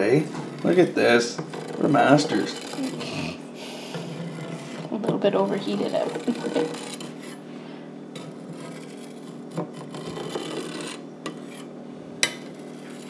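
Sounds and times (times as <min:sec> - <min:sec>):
knife scraping a pot: 0:00.4 - 0:07.5, 0:08.1 - 0:13.0.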